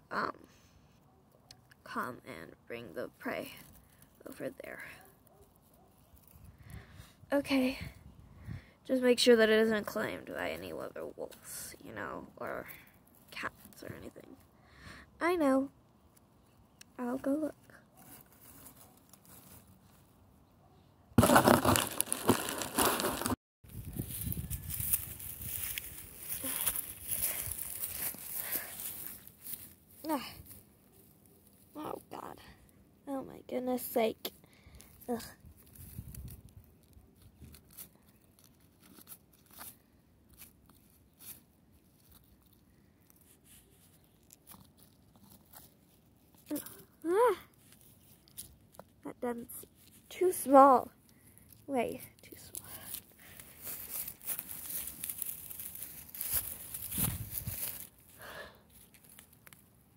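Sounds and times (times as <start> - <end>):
dry grass and leaves rustling: 2.6 - 14.6, 15.9 - 20.5, 21.2 - 32.7, 33.6 - 59.9.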